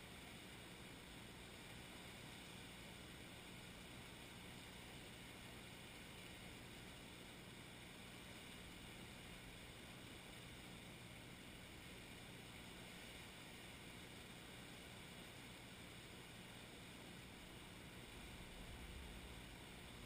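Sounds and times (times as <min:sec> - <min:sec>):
faint hiss: 0:00.0 - 0:20.0.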